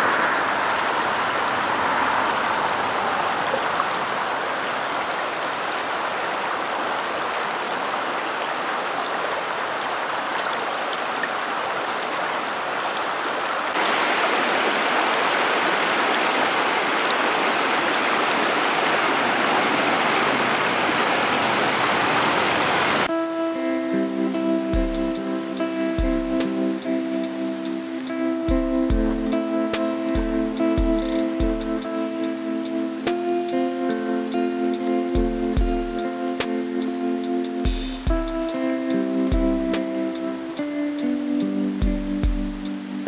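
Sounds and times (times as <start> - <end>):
stream rushing: 0.0 - 41.8
rain falling: 0.0 - 43.0.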